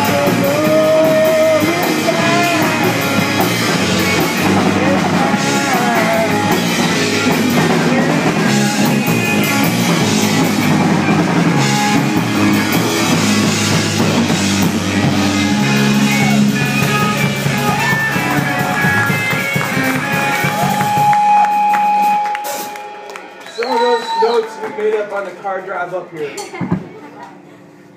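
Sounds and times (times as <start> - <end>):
drum kit: 0.0 - 23.3
distorted electric guitars: 0.0 - 23.5
live rock band playing: 0.0 - 23.5.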